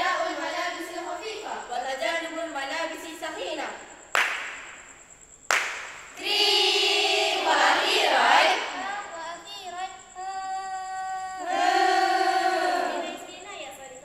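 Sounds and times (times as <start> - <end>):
girls singing in unison: 0.0 - 3.9, 6.1 - 13.9.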